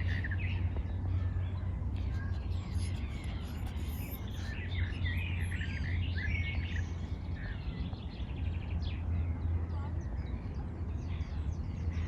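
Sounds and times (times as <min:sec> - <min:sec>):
songbirds chirping and trilling: 0:00.0 - 0:12.0
steady low rumble: 0:00.0 - 0:12.0.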